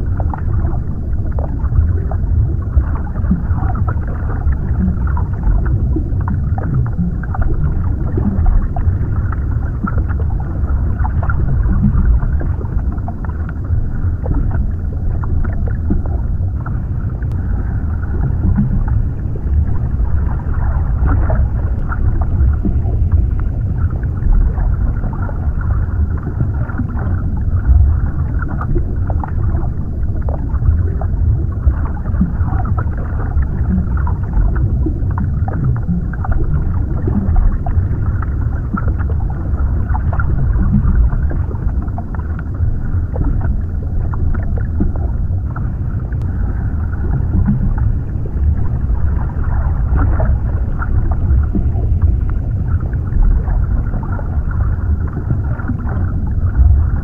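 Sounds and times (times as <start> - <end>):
muffled underwater rumble: 0.0 - 57.0.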